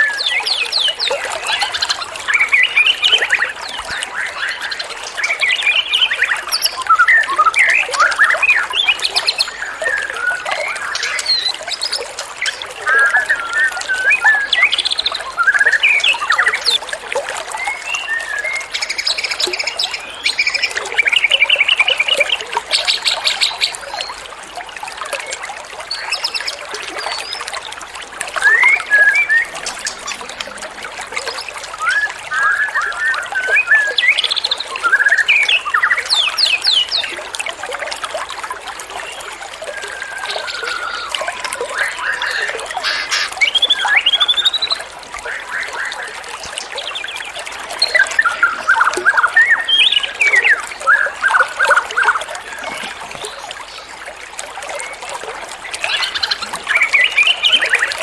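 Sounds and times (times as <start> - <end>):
songbirds singing: 0.0 - 24.2, 28.3 - 37.3, 39.0 - 58.0
running water rushing: 0.0 - 58.0.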